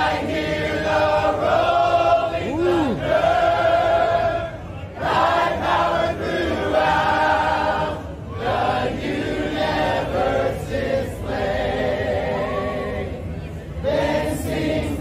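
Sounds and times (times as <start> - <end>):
crowd singing a hymn: 0.0 - 15.0.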